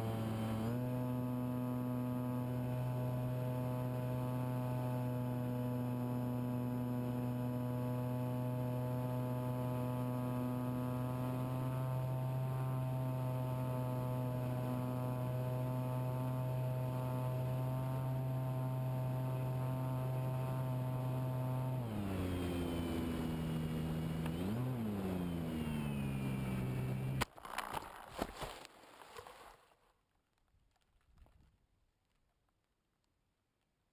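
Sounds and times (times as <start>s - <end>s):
model plane electric motor: 0.0s - 27.2s.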